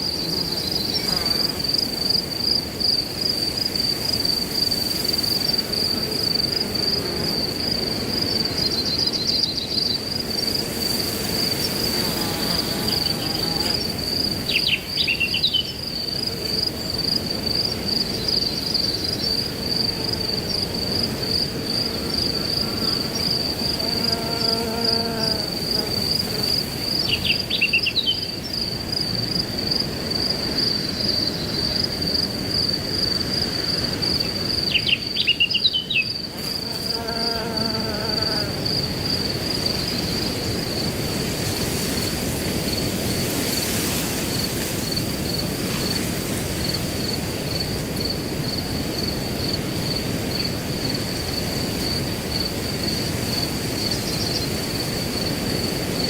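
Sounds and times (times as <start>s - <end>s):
cricket trilling: 0.0s - 56.0s
wind in grass: 0.0s - 56.0s.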